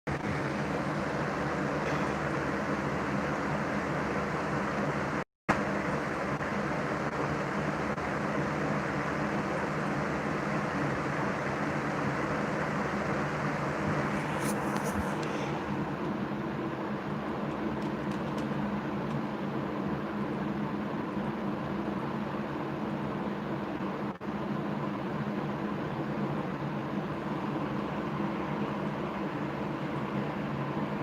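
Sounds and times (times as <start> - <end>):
mechanical hum and hiss: 0.1 - 31.0.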